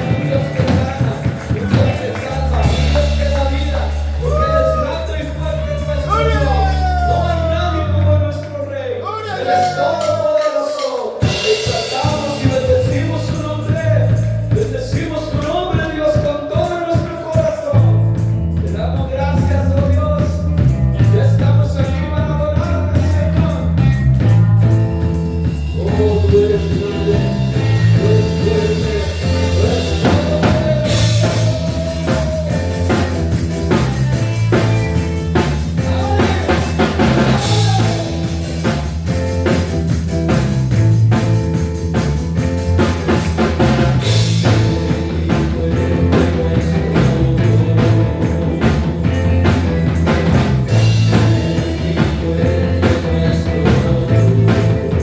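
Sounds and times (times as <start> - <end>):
band playing worship song: 0.0 - 55.0.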